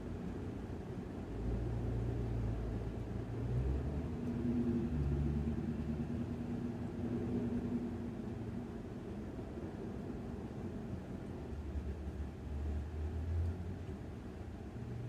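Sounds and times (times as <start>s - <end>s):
vehicle engines rumbling: 1.1s - 15.0s.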